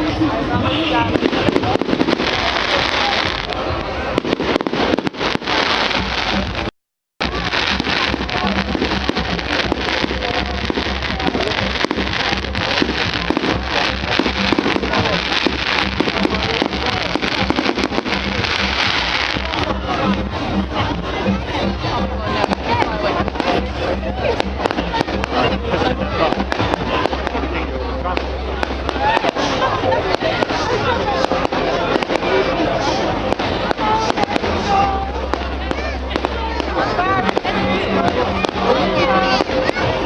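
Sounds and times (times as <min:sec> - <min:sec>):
fireworks crackling: 0:00.0 - 0:40.0
voices: 0:00.0 - 0:40.0.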